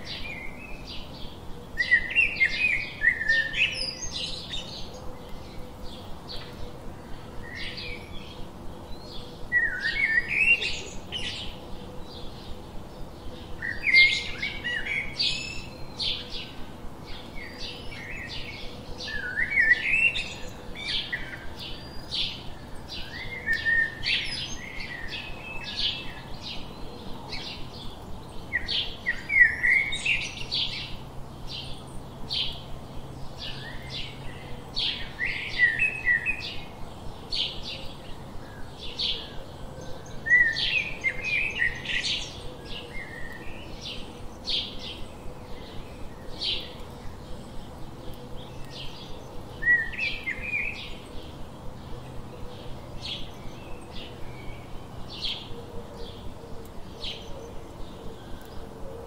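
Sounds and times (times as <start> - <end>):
warbling bird song: 0.0 - 59.0.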